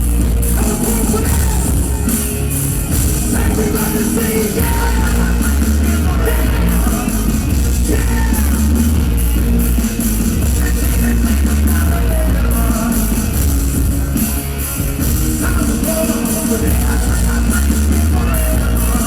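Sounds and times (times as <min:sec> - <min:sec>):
live rock band: 0:00.0 - 0:19.0
man singing: 0:00.2 - 0:09.3, 0:10.4 - 0:14.4, 0:15.0 - 0:19.0.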